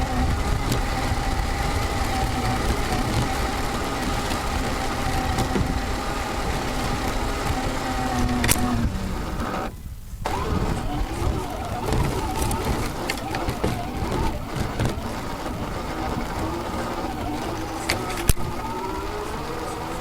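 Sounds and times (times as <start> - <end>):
electric motor whine: 0.0 - 20.0
toy truck rumbling on rough ground: 0.0 - 20.0.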